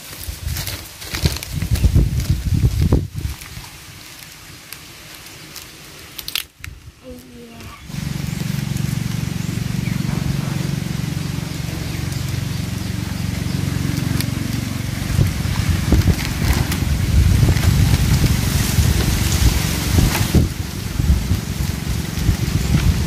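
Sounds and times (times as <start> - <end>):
wind rumbling on microphone: 0.0 - 4.6, 6.5 - 23.0
plastic sheet crinkling: 0.0 - 23.0.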